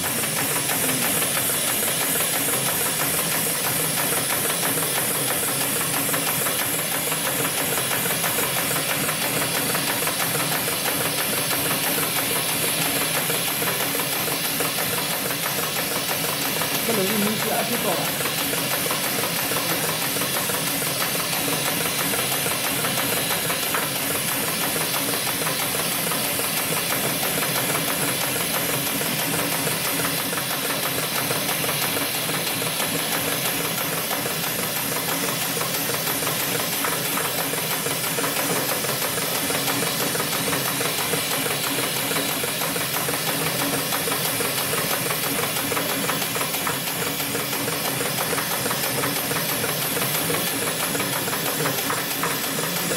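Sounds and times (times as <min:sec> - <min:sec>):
industrial sewing machine stitching: 0:00.0 - 0:52.9.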